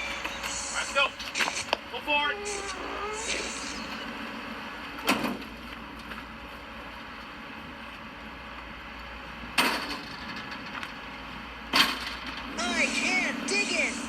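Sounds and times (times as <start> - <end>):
moving vehicle rumble: 0.0 - 14.0.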